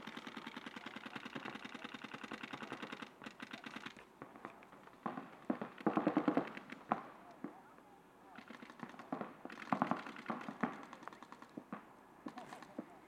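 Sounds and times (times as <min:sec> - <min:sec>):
paintball markers firing: 0:00.0 - 0:07.6, 0:08.4 - 0:13.0.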